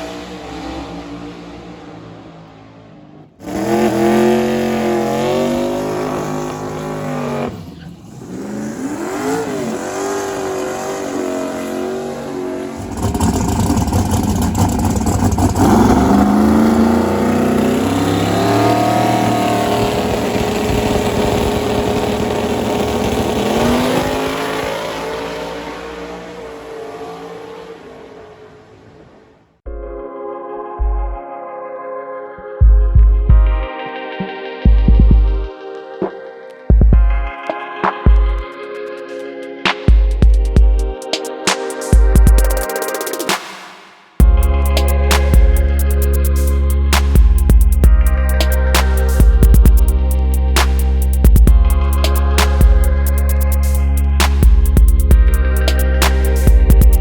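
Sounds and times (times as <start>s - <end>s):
drag race cars at full throttle: 0.0s - 29.6s, 37.1s - 57.0s.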